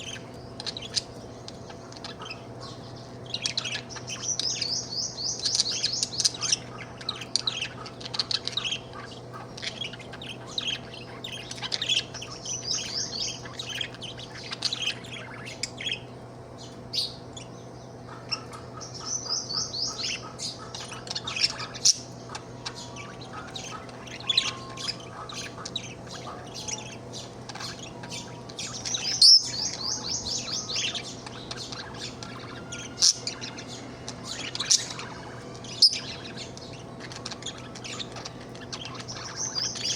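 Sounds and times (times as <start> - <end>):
budgerigar chattering and warbling: 0.0 - 16.1, 18.0 - 39.9
sharp bird calls: 0.0 - 39.9.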